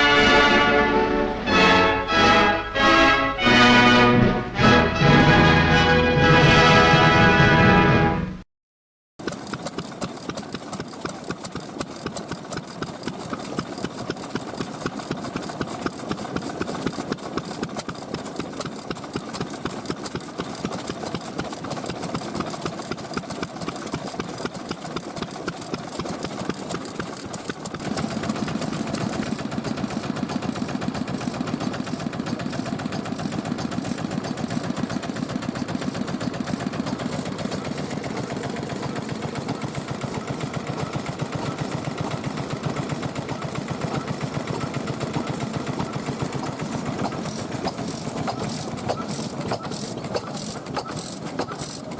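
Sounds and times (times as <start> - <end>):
stationary engines clattering: 9.2 - 51.9.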